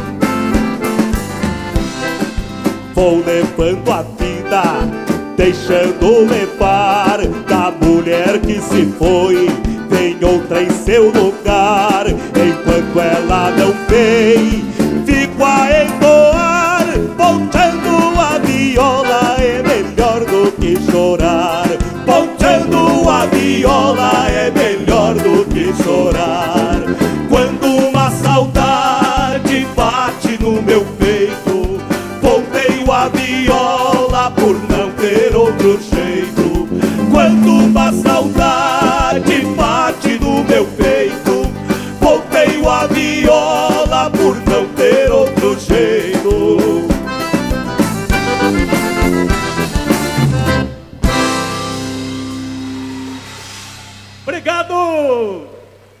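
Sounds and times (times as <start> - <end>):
piano accordion melody: 0.0 - 53.6
live band playing: 0.0 - 54.5.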